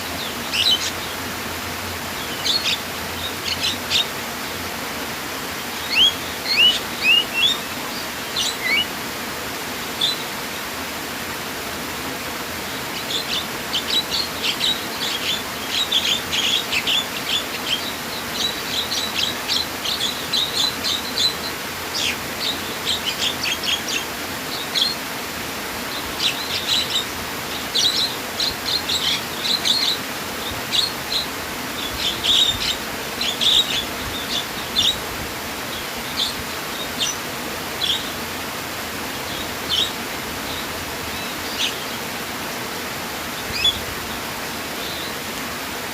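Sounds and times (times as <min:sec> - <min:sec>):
flowing water: 0:00.0 - 0:45.9
songbirds chirping: 0:00.0 - 0:45.9.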